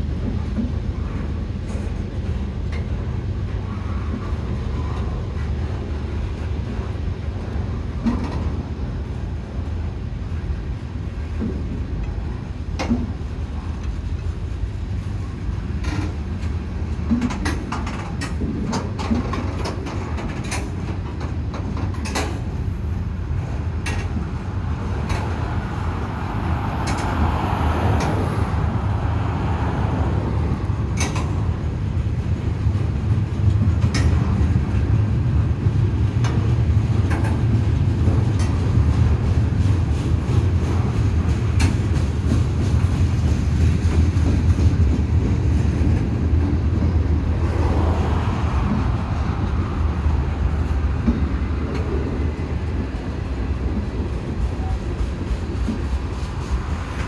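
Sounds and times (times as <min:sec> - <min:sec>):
steel wheels rumbling on rail: 0:00.0 - 0:57.0
wheels clicking over rail joints: 0:00.0 - 0:57.0.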